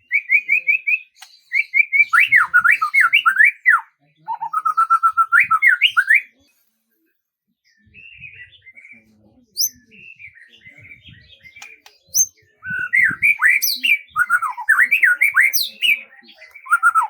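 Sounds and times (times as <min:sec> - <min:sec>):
songbird singing: 0:00.0 - 0:06.6, 0:07.7 - 0:17.0.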